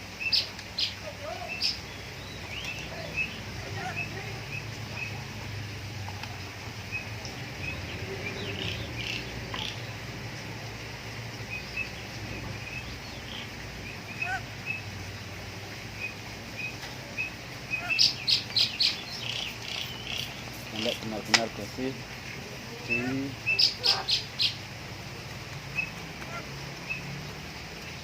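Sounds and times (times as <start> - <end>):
bird chirping: 0.2 - 5.4, 6.0 - 10.1, 11.4 - 15.0, 15.9 - 24.7, 25.6 - 27.2.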